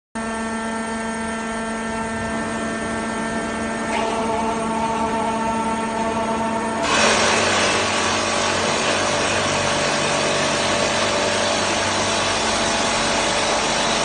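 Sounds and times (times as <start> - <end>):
drilling machinery droning hum: 0.2 - 14.0.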